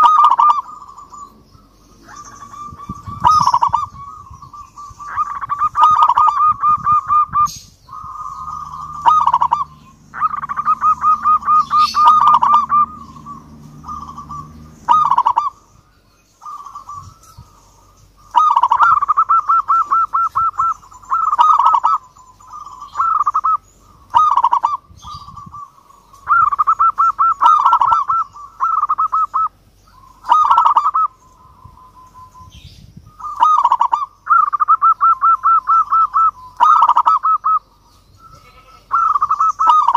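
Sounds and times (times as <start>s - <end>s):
dove cooing: 0.0s - 15.7s, 16.4s - 39.9s.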